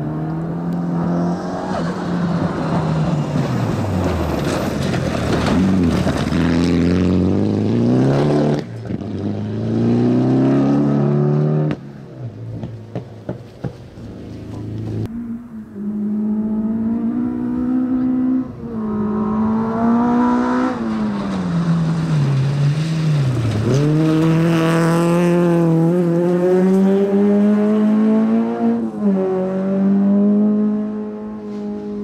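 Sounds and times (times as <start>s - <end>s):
rally car engine accelerating: 0.0s - 11.8s, 14.1s - 32.0s.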